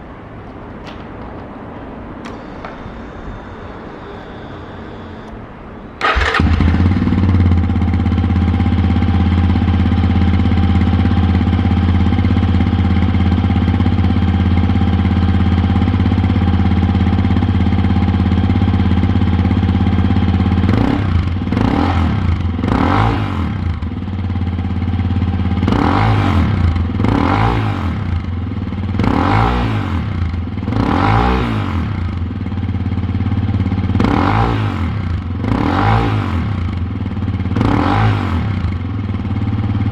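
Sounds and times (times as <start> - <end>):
motorcycle engine idling and revving: 6.0 - 39.9.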